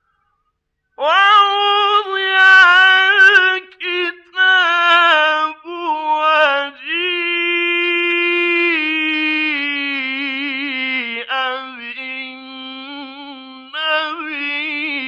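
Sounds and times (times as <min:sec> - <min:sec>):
man chanting recitation: 0:01.0 - 0:15.0.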